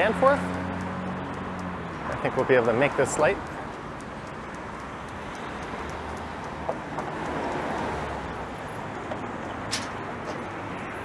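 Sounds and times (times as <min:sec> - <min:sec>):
vehicle passing by: 0:00.0 - 0:09.4
city street traffic: 0:00.0 - 0:11.0.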